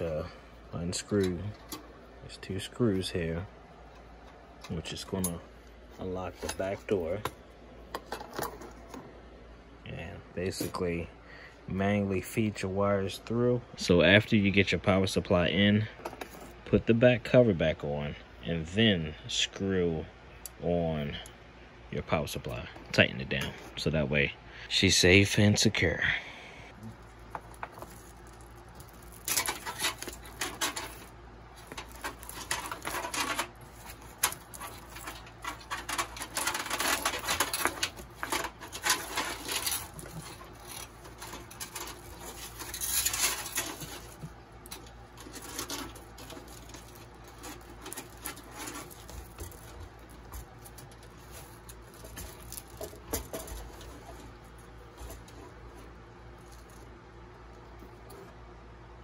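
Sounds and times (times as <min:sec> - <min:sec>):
rustling of cables: 0:00.0 - 0:09.3, 0:11.7 - 0:18.9, 0:26.7 - 0:58.9
low steady hum: 0:00.0 - 0:59.0.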